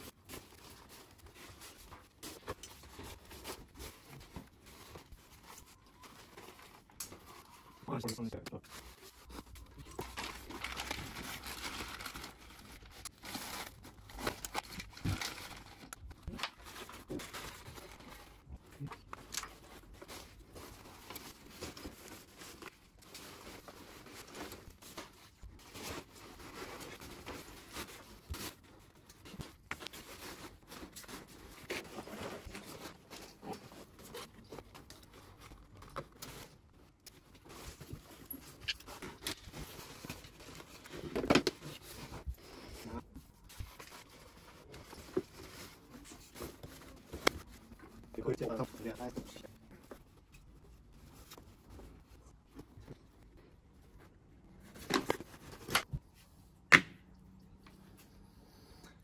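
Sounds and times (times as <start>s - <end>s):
nylon sacks rustling and crinkling: 0.0s - 8.0s, 8.6s - 49.5s.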